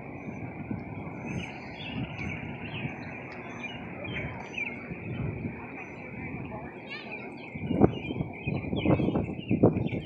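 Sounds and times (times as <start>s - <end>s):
steady low rumble: 0.0s - 10.0s
small birds chirping: 0.2s - 10.0s.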